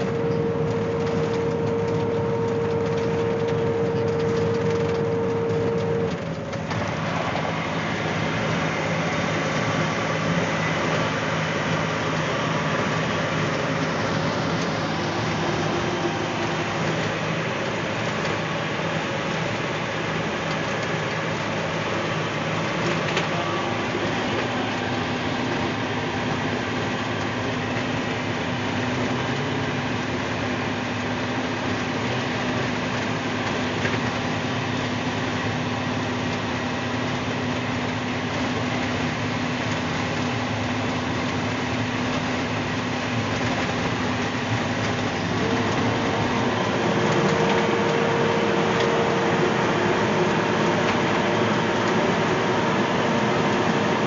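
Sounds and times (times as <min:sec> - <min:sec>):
diesel engine drone: 0:00.0 - 0:54.0
tyre and gravel road noise: 0:00.0 - 0:54.0.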